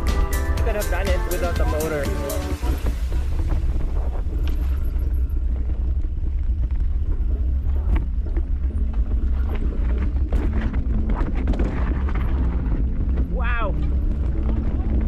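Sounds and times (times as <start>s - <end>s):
motor rumbling: 0.0s - 15.0s.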